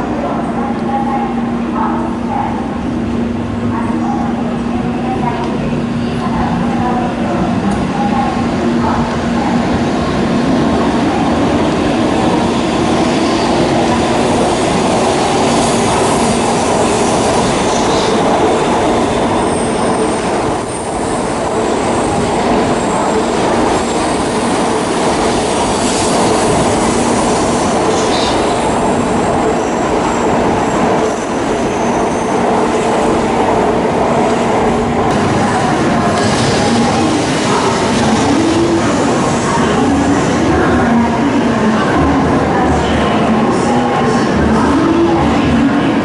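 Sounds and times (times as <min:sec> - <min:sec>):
train rumbling: 0:00.0 - 0:46.0.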